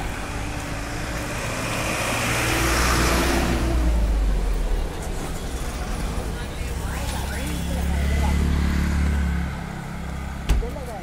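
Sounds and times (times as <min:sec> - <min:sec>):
vehicle passing close by: 0:00.0 - 0:04.9, 0:05.6 - 0:10.5
traffic engine rumble: 0:00.0 - 0:11.0.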